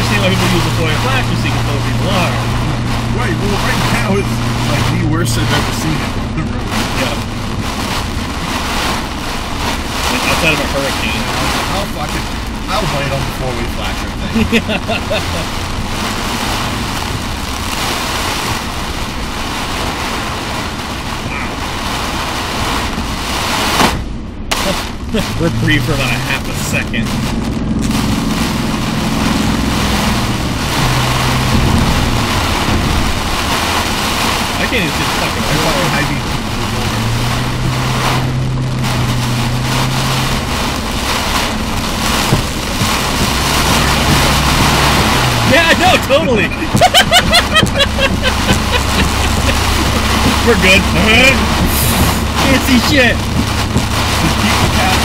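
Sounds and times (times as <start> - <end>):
heavy rain on vehicle roof: 0.0 - 55.0
road noise: 0.0 - 55.0.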